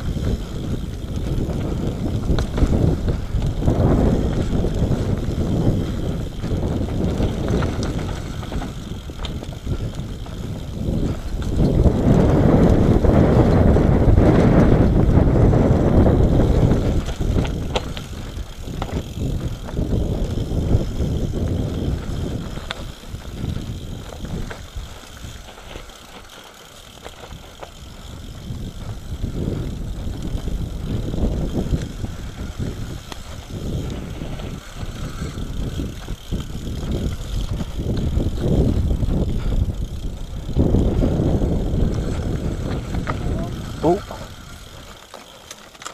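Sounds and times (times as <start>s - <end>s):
bike knocks and rattles: 0.0s - 45.9s
tyres rumbling over dirt trail: 0.0s - 45.9s
wind buffeting microphone: 0.0s - 45.9s.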